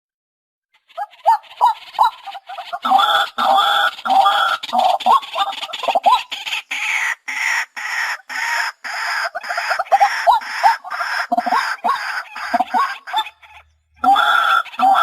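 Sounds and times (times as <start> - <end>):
bird harsh croaking calls: 0.7 - 15.0.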